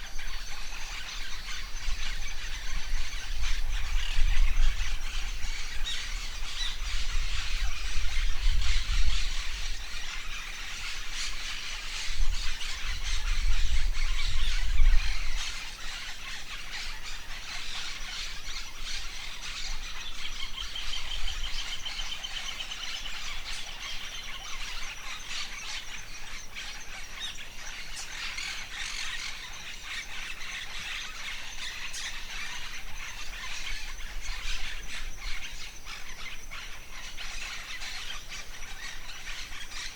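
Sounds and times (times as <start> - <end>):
wind rumbling on microphone: 0.0 - 25.3, 31.4 - 39.6
forest birds chirping: 0.0 - 39.9.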